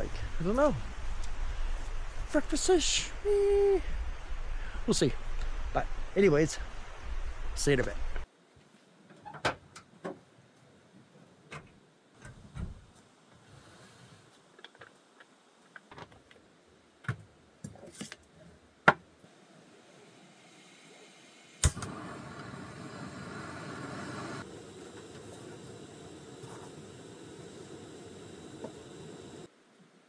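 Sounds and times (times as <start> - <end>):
steady hiss: 0.0 - 9.1, 10.4 - 17.0, 19.2 - 30.0.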